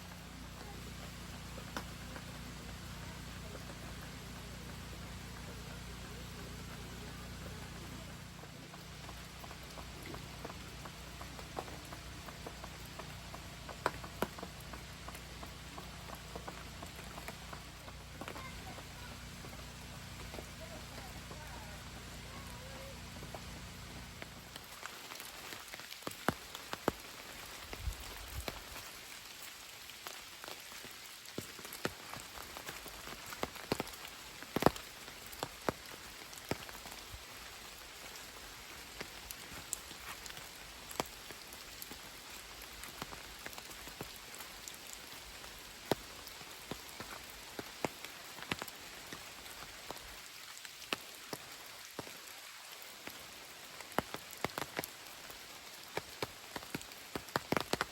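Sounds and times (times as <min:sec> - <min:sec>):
raindrops ticking sharply: 0:00.0 - 0:57.9
steady rain patter: 0:00.0 - 0:57.9.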